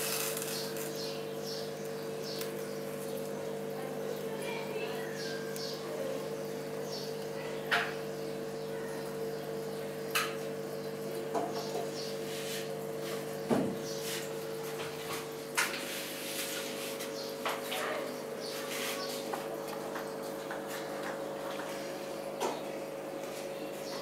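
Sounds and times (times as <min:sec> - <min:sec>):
aquarium equipment humming: 0:00.0 - 0:24.0.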